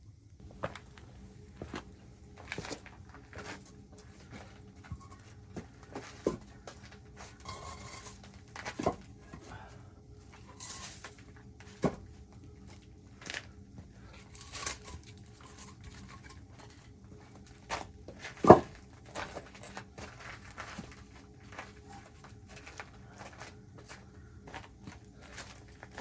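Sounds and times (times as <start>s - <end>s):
faint steady hum: 0.0s - 26.0s
objects knocking and rustling: 0.4s - 9.6s, 10.2s - 26.0s.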